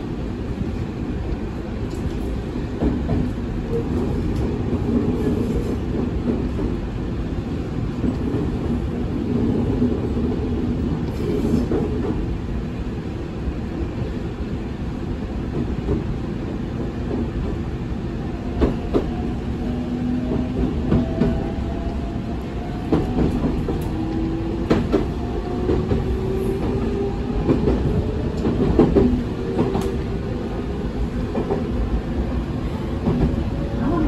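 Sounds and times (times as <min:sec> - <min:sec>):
train wheel rumble: 0:00.0 - 0:34.0.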